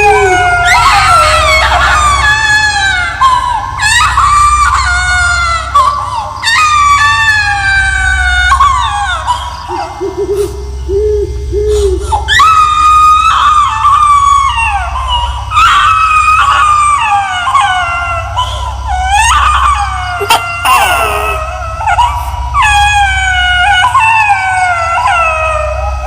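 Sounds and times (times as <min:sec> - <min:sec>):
eerie high-pitched crying wail: 0:00.0 - 0:26.0
steady low hum: 0:00.0 - 0:26.0.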